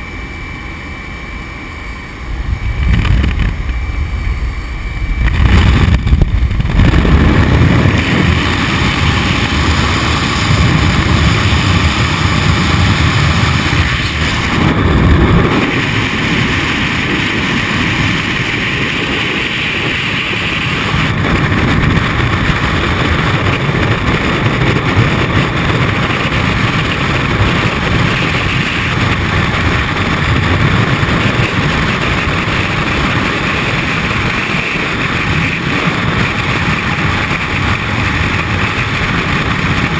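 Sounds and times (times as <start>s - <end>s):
freefall wind buffeting microphone: 2.2s - 39.9s.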